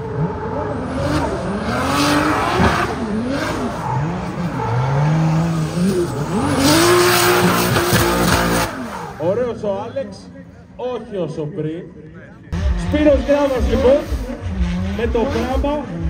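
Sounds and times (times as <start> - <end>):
car engine revving: 0.0 - 9.6, 12.5 - 16.0.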